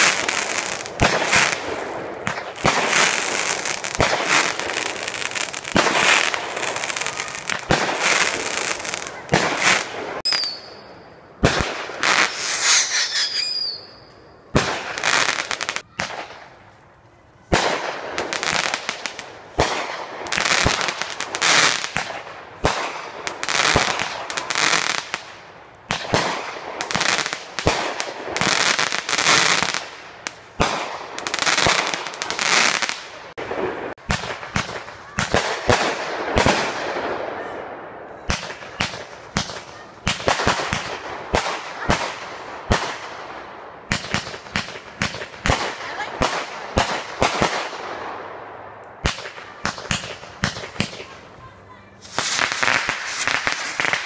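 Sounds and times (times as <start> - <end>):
fireworks bangs: 0.0 - 16.6, 17.4 - 54.0.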